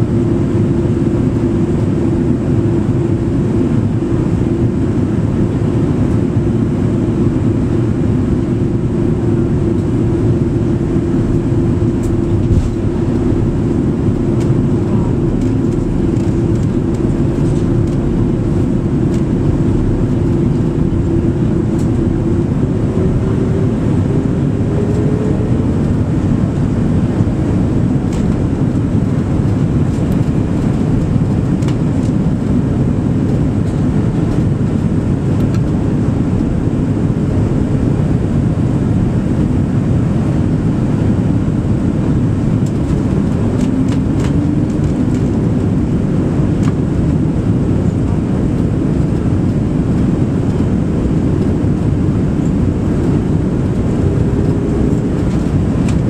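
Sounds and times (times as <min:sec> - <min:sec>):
airliner cabin engine and airflow rush: 0:00.0 - 0:56.0
engine hum rising in pitch: 0:00.0 - 0:56.0.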